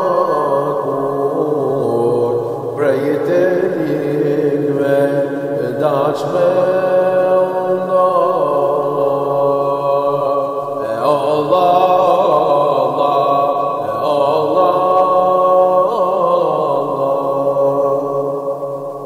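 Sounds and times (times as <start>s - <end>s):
steady sustained tone: 0.0s - 19.0s
voice chanting a hymn: 0.0s - 19.0s.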